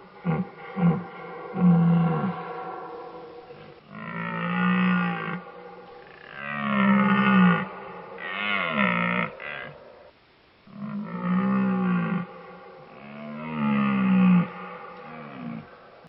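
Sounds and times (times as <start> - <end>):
animal calling: 0.0 - 16.0.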